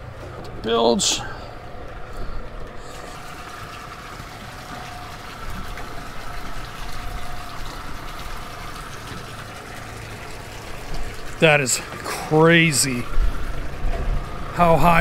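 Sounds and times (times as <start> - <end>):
bilge pump running: 0.0 - 15.0
water splashing from outlet: 0.0 - 15.0.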